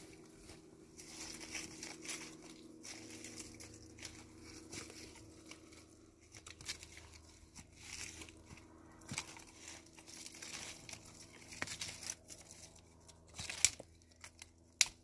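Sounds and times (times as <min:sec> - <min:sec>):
low steady hum: 0:00.0 - 0:15.0
rustling and crinkling: 0:00.0 - 0:15.0.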